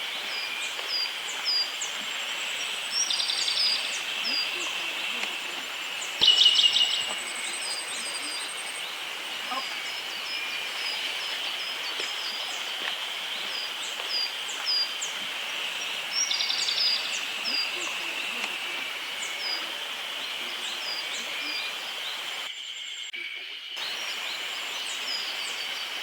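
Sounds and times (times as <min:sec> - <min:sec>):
songbirds calling and singing: 0:00.0 - 0:26.0.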